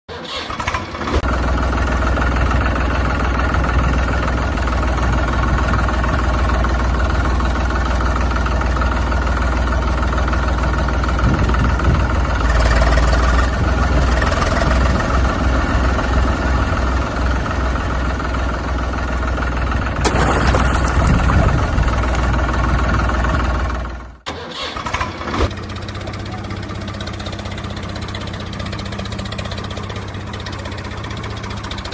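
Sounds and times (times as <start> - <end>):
heavy diesel engine droning: 0.1 - 31.9.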